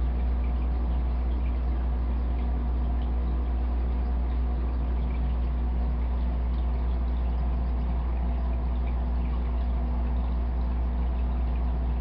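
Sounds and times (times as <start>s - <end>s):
aquarium filter humming: 0.0s - 12.0s
water trickling and dripping: 0.0s - 12.0s.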